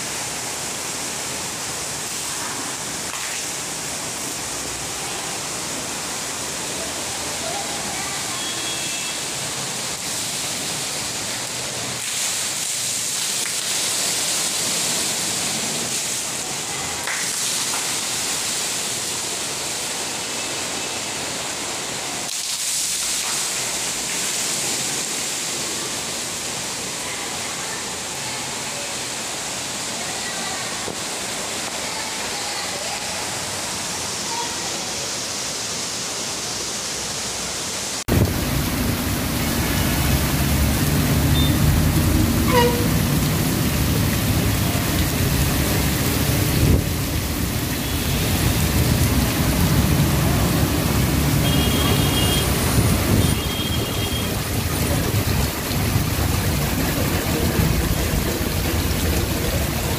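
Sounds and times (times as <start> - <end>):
heavy rain: 0.0 - 59.9
running water: 0.0 - 59.9.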